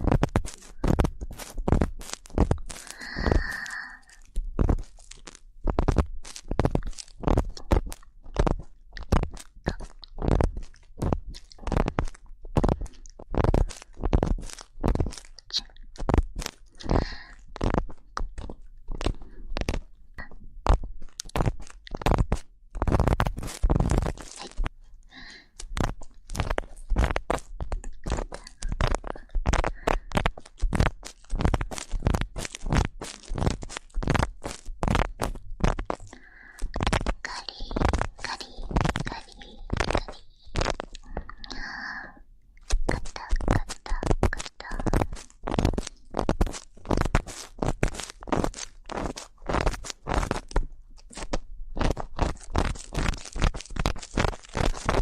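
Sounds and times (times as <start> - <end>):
earpick scraping microphone: 0.0 - 24.7, 25.4 - 41.6, 42.6 - 55.0.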